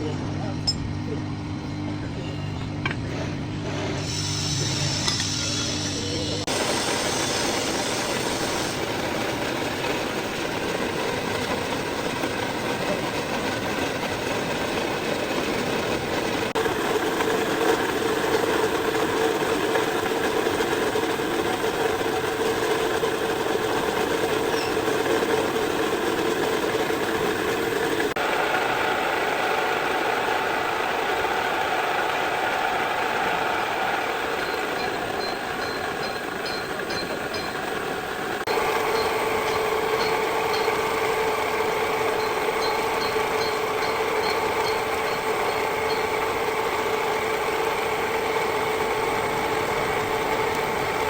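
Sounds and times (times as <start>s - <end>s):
lathe machining metal: 0.0s - 51.0s.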